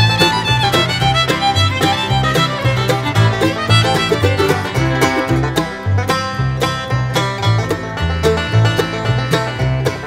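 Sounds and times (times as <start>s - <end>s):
upbeat bluegrass string music: 0.0s - 10.0s.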